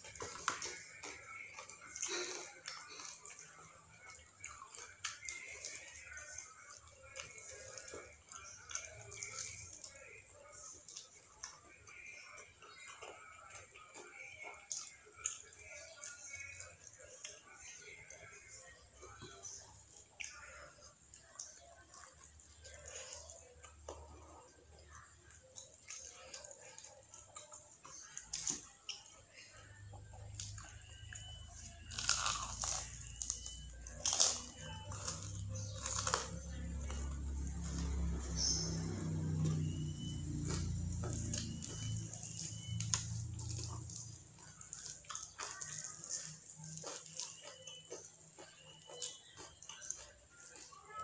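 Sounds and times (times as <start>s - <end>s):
chewing and mouth smacks: 0.0s - 51.0s.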